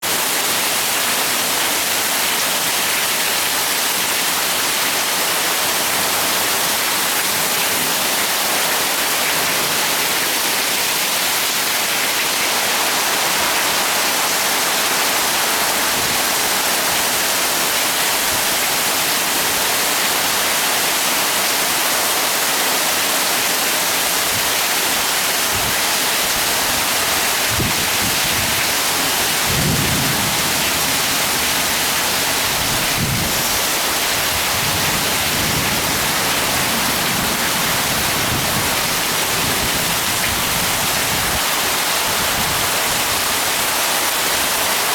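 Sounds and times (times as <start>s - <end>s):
heavy rain hissing: 0.1s - 44.9s.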